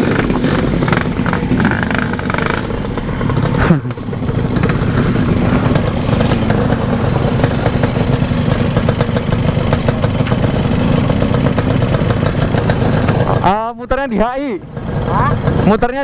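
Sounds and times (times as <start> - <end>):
exhaust crackle: 0.0 - 16.0
two-stroke motorcycle engine: 0.0 - 16.0.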